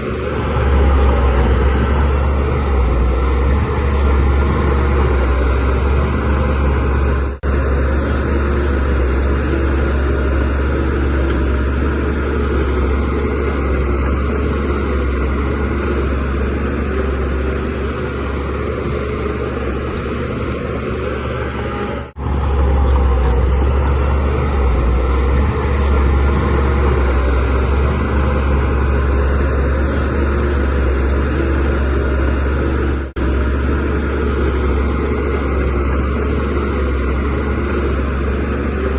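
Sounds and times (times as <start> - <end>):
bulldozer diesel engine drone: 0.0 - 38.9.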